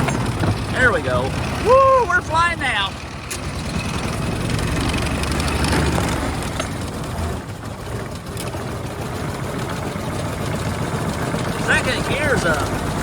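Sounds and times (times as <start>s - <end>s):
car engine chugging: 0.0s - 13.0s
road noise: 0.0s - 13.0s.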